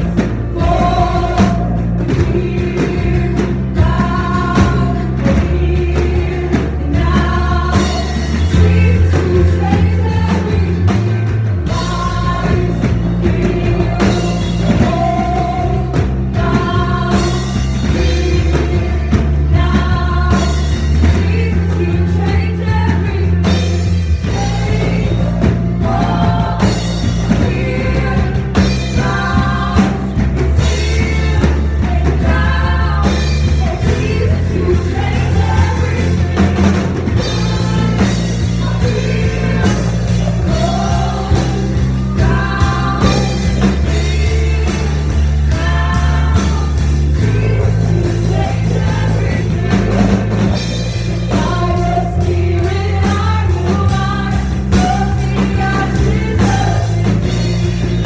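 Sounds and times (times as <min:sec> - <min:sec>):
bass: 0:00.0 - 0:58.0
drums: 0:00.0 - 0:58.0
voices singing: 0:00.0 - 0:58.0.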